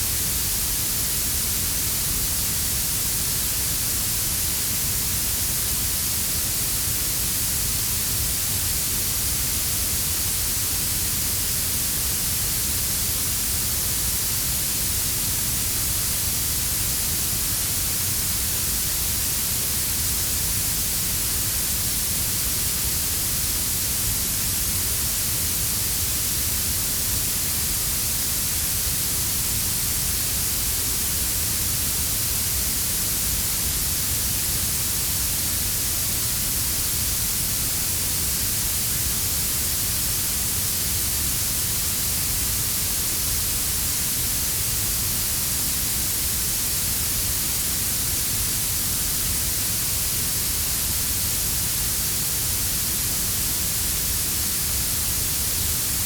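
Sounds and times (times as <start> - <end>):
treble-weighted hiss: 0.0 - 56.0.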